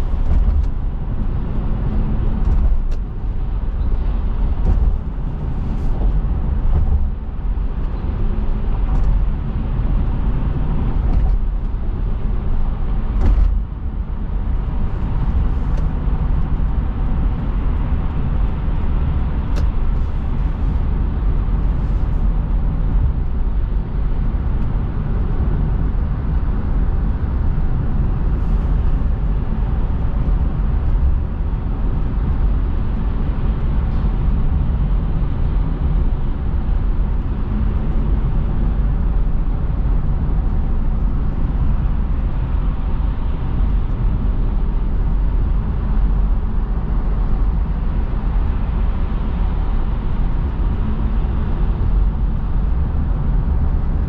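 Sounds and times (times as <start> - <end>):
car road rumble: 0.0 - 54.0.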